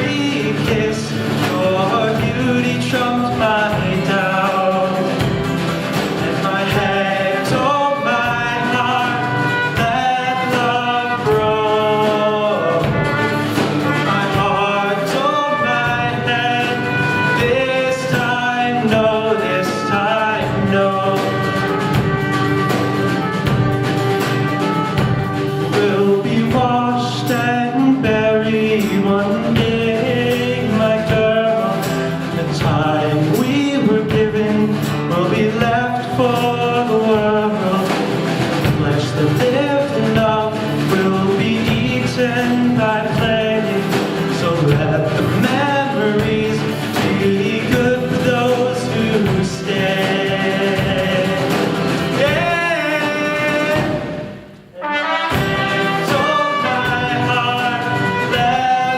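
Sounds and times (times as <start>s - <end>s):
guitar: 0.0s - 58.9s
live folk-rock band: 0.0s - 58.9s
man singing: 0.0s - 58.9s.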